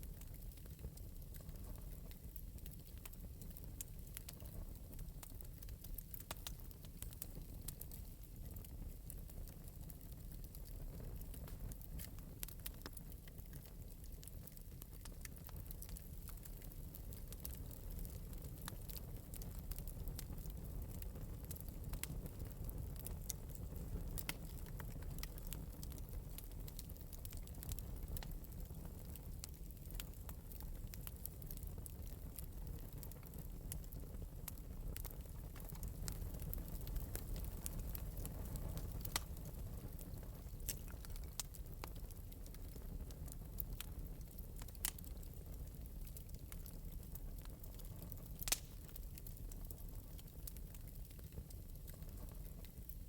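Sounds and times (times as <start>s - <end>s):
fire crackling: 0.0s - 53.0s.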